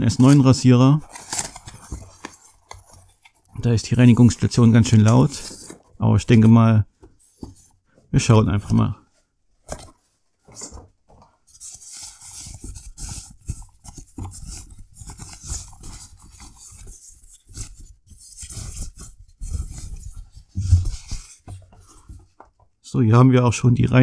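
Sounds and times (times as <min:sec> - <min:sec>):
cardboard and plastic crinkling: 0:00.0 - 0:09.0, 0:09.6 - 0:22.6.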